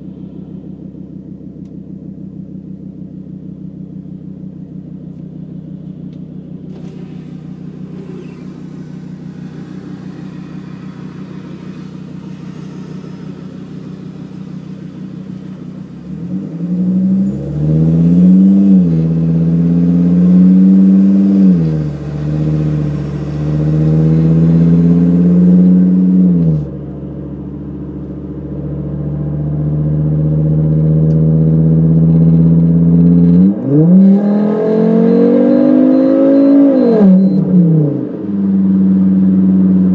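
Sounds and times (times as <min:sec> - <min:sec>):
car cruising drone: 0:00.0 - 0:39.9
car engine idling and revving: 0:00.0 - 0:39.9.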